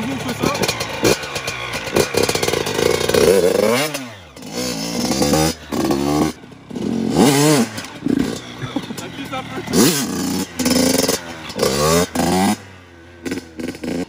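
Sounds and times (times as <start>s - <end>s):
two-stroke dirt bike engine revving: 0.0s - 14.0s.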